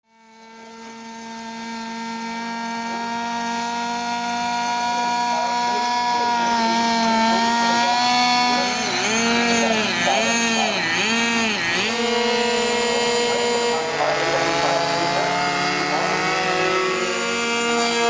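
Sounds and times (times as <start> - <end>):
model aircraft engine running: 0.0 - 18.0.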